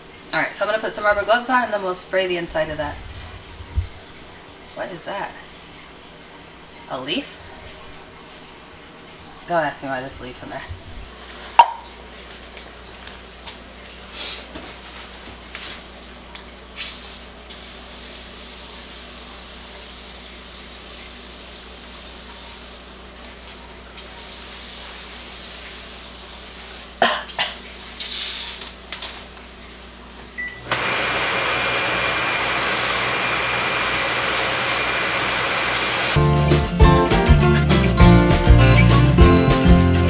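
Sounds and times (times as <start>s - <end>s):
fan whirring: 0.0s - 39.2s.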